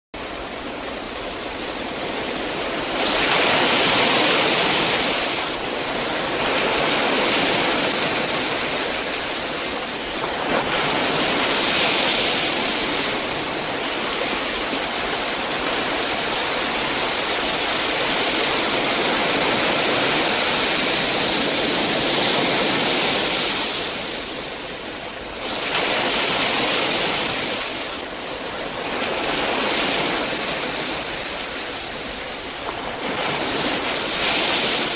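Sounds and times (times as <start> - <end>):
continuous rushing noise: 0.1 - 34.9.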